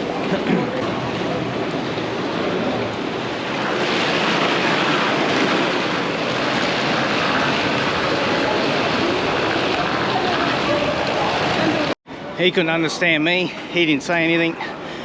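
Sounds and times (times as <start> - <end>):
steady rushing noise: 0.0 - 12.6.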